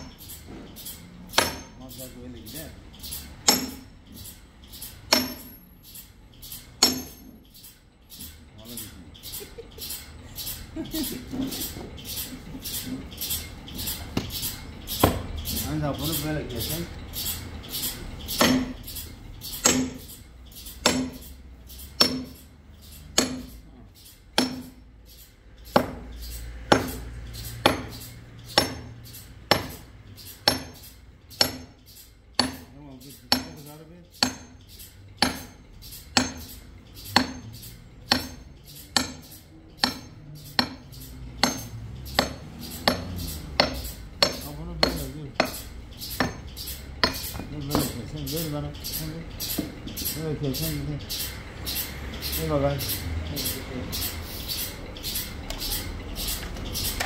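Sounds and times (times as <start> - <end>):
faint machinery hum: 0.0 - 57.0
sharp metallic clinks: 0.0 - 57.0.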